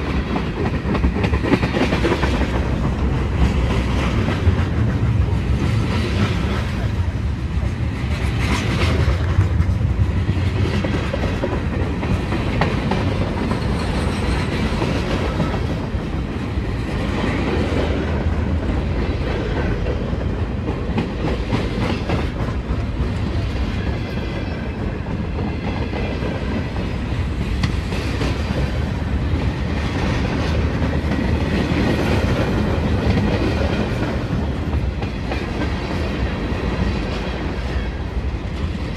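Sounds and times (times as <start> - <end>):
train wheels clicking over rails: 0.0 - 38.9.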